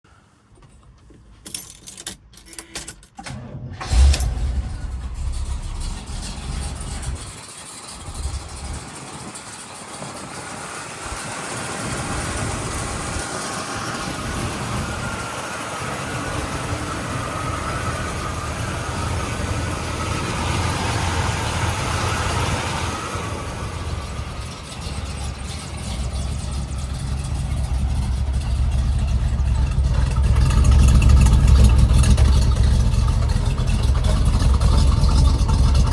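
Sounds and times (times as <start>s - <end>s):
car engine starting and idling: 0.2s - 35.9s.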